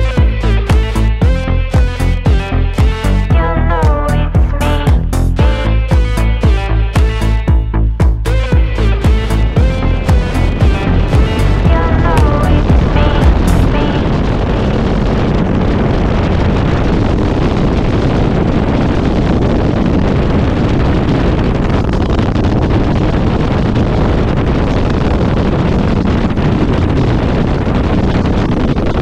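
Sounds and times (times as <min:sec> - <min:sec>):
wind buffeting microphone: 0:00.0 - 0:29.0
gyrocopter engine and rotor noise: 0:05.4 - 0:29.0.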